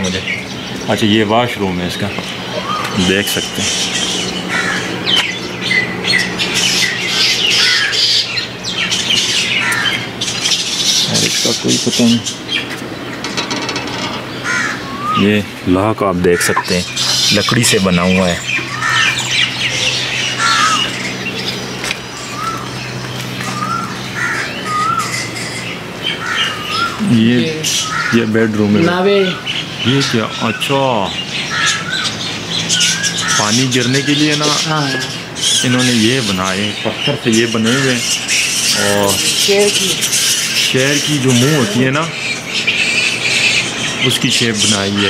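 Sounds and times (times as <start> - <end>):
animals squawking and chirping: 0.0 - 45.0
steady low hum: 0.0 - 45.0.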